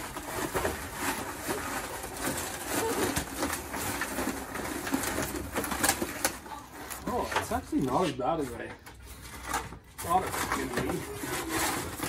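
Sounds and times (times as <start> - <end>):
soggy cardboard crumpling: 0.0 - 12.0.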